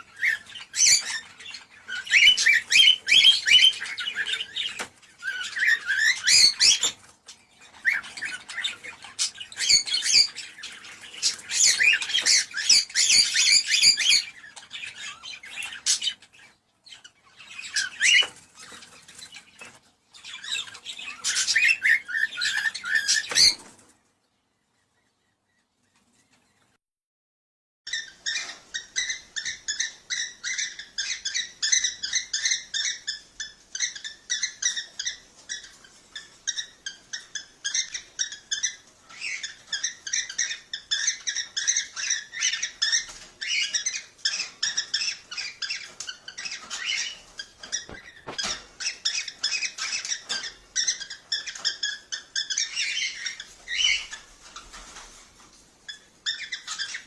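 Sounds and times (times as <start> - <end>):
cockatiels chirping: 0.0 - 23.9, 27.9 - 57.0.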